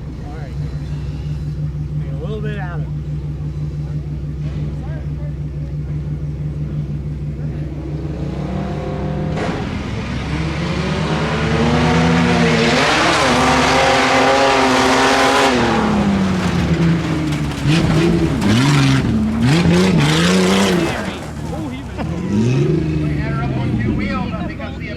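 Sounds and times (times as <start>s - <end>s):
pickup truck engine revving: 0.0s - 24.9s
tyres on dirt: 0.0s - 24.9s.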